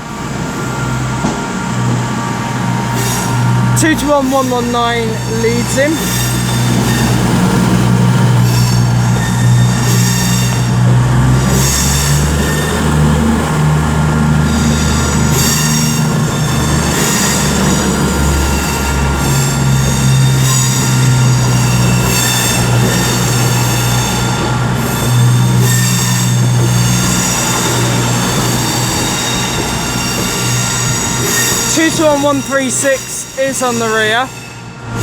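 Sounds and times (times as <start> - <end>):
diesel train engines humming: 0.0 - 35.0
wheels squealing: 0.0 - 35.0.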